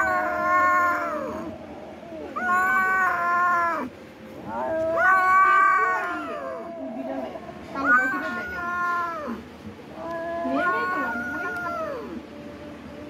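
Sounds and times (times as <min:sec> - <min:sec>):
cat meowing: 0:00.0 - 0:12.2.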